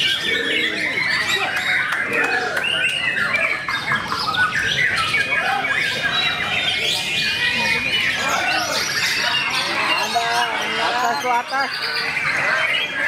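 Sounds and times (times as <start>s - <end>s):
bird singing varied song: 0.0s - 13.0s
other songbirds singing: 0.0s - 13.0s.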